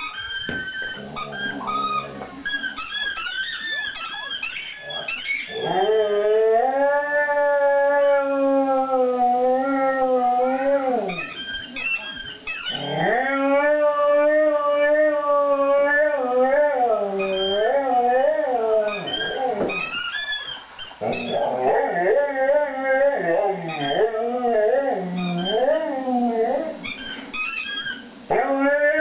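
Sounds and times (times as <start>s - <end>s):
dog whining: 0.0s - 8.3s, 9.0s - 29.0s
dog howling: 0.0s - 29.0s.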